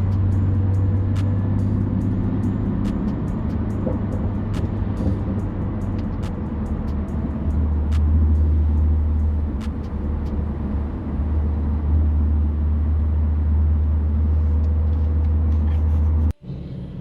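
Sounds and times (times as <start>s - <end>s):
tyre road noise: 0.0s - 16.3s
car engine low drone: 0.0s - 17.0s.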